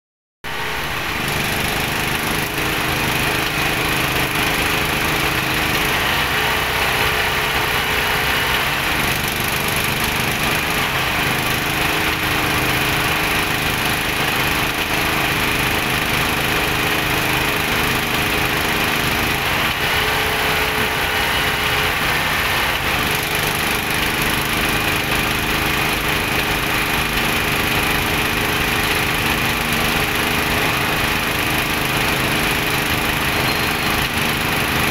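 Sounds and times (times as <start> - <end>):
drilling rig engine running: 0.5 - 34.9.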